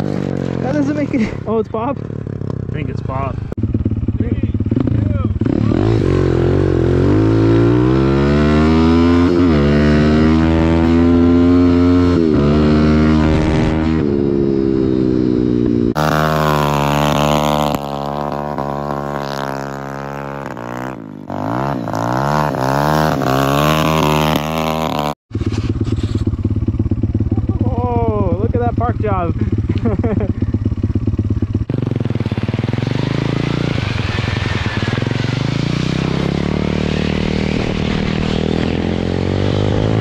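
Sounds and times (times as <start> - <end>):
quieter engine revving irregularly: 0.0 - 26.8, 31.1 - 40.0
small motorbike engine revving: 3.8 - 27.6, 31.6 - 40.0.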